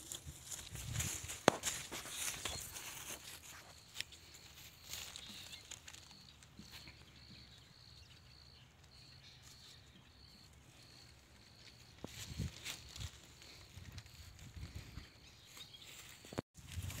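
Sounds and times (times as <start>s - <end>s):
dry straw rustling and crackling: 0.0s - 17.0s
faint high chirp: 2.0s - 16.4s.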